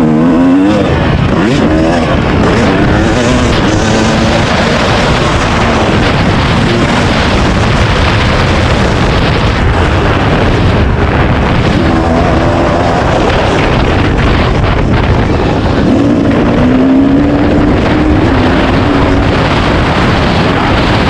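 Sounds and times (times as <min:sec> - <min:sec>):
dirt bike engine revving: 0:00.0 - 0:21.0
wind buffeting microphone: 0:00.0 - 0:21.0.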